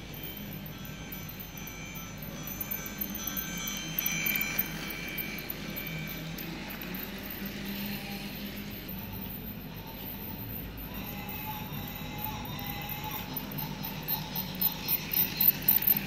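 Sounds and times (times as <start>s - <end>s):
high ringing chime tones: 0.0s - 16.0s
toy train motor hum: 0.0s - 16.0s.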